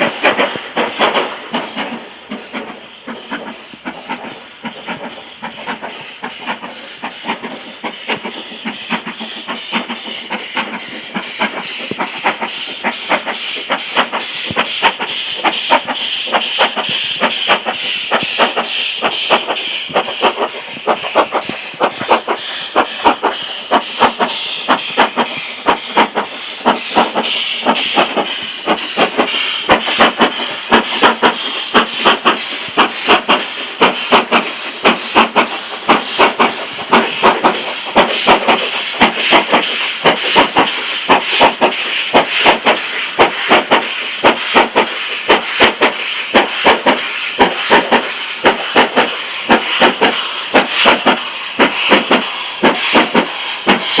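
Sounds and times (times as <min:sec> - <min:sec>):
hiss of steam: 0:00.0 - 0:54.0
steam locomotive exhaust beats: 0:00.0 - 0:54.0.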